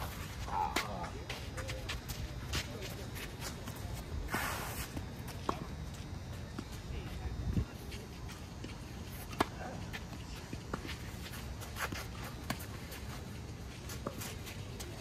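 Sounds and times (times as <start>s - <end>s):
outdoor hum: 0.0s - 15.0s.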